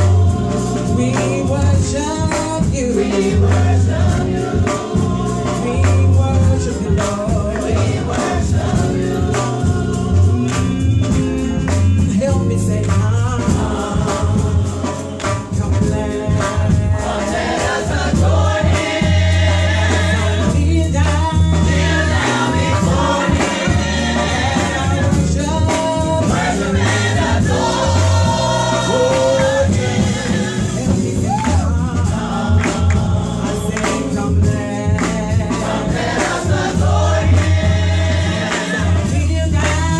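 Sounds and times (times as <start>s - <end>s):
gospel choir singing: 0.0s - 39.9s
heavy bass line: 0.0s - 39.9s
steady percussion: 0.0s - 39.9s.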